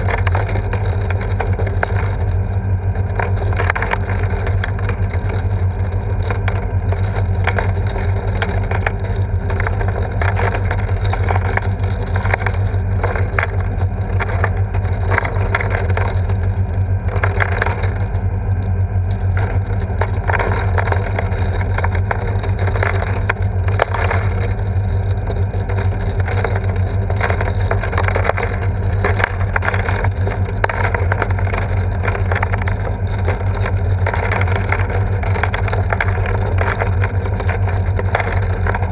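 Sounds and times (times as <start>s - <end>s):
low machine hum: 0.0s - 38.9s
small balls knocking and rattling: 0.0s - 38.9s.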